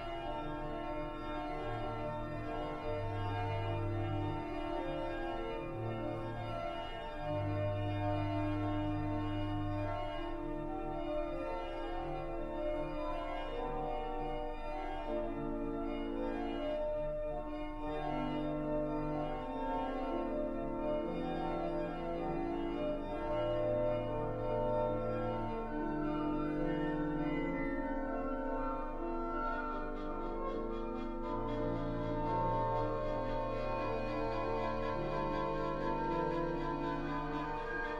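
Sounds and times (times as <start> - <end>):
organ playing slow chords: 0.0 - 37.9.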